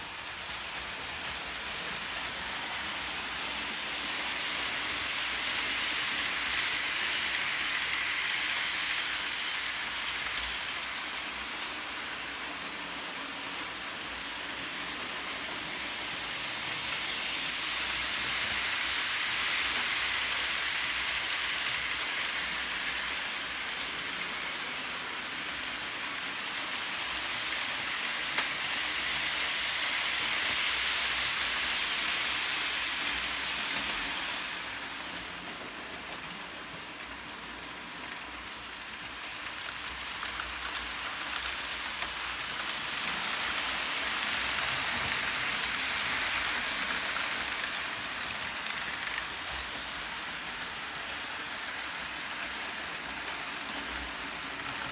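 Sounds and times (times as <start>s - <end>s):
model trains rattling on track: 0.0s - 54.9s.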